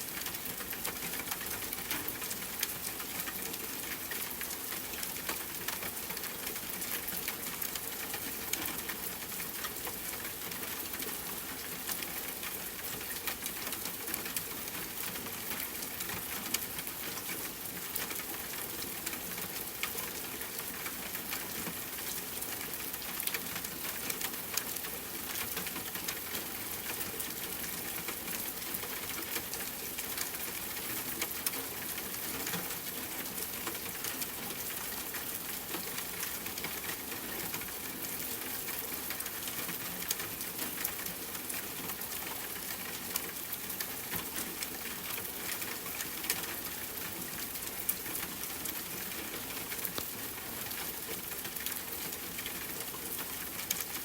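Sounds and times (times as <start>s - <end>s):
rain pattering on a tent: 0.0s - 54.0s.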